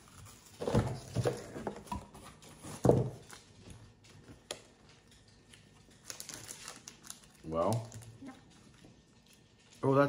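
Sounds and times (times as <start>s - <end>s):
wrappers and paper rustling: 0.0s - 10.0s.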